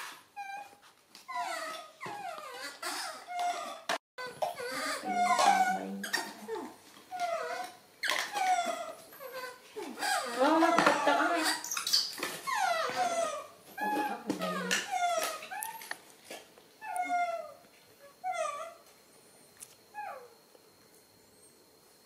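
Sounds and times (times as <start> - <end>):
baby monkeys whimpering coos: 0.4 - 15.9, 16.8 - 18.8, 20.0 - 20.3.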